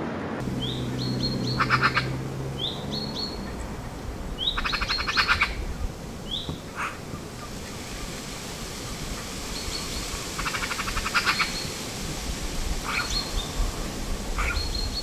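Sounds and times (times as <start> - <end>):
songbird singing: 0.4 - 15.0.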